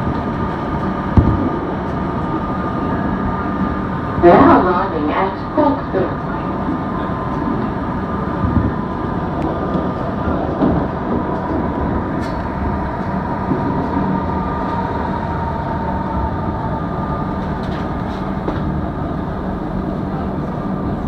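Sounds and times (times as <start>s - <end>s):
steady train whine: 0.0s - 21.0s
train wheels rumbling on rails: 0.0s - 21.0s.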